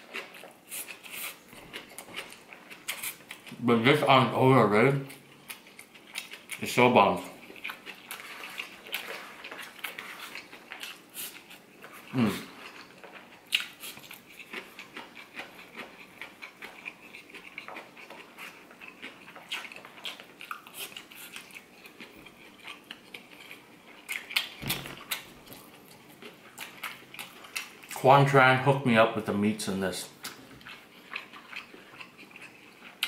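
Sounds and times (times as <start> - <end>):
chewing: 0.0 - 4.1, 5.0 - 28.4, 30.1 - 33.0.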